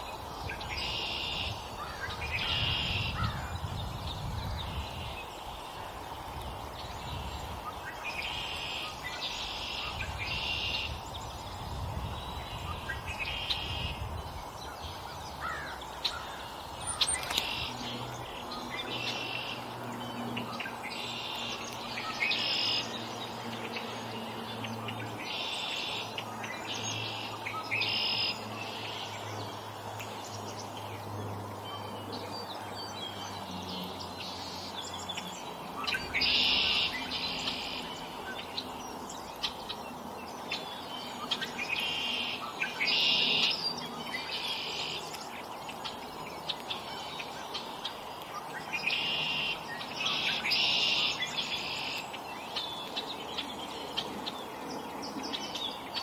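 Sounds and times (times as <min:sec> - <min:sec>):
songbirds harsh calls: 0:00.0 - 0:56.0.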